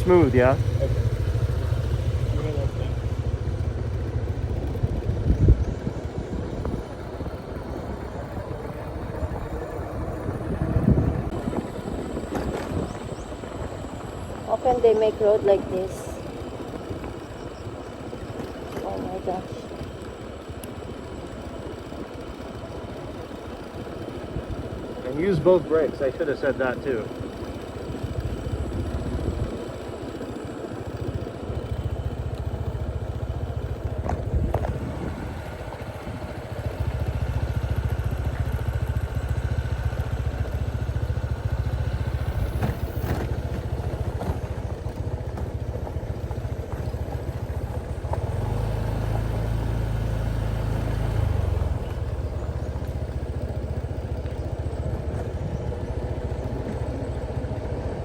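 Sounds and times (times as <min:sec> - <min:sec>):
motorcycle riding: 0:00.0 - 0:58.0.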